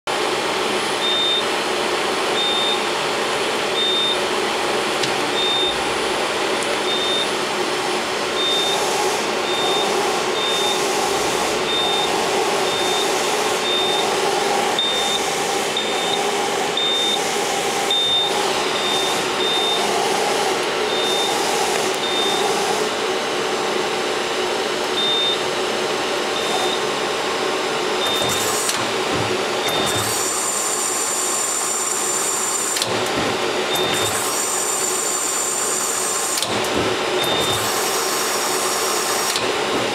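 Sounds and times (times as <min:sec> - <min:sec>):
lathe mechanical hum and hiss: 0:00.1 - 0:39.9.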